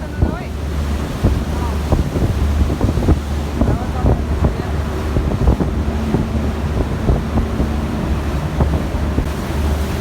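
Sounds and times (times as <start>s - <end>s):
boat engine humming: 0.0s - 10.0s
water rushing along hull: 0.0s - 10.0s
wind buffeting microphone: 0.0s - 10.0s.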